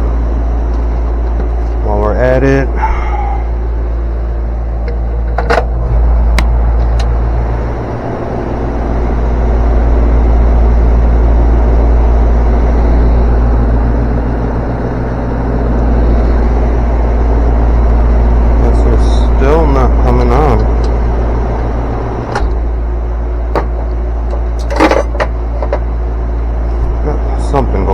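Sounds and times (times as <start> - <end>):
air conditioner unit humming: 0.0 - 27.9.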